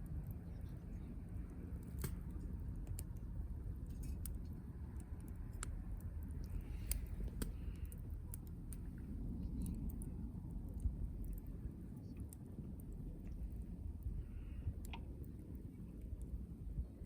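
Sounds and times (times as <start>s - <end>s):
campfire crackling: 0.0s - 17.0s
low background rumble: 0.0s - 17.0s.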